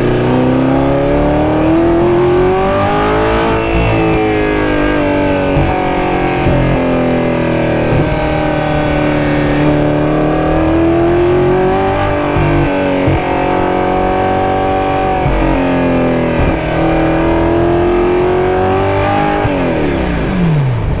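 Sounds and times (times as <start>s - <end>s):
sports car engine revving: 0.0s - 21.0s.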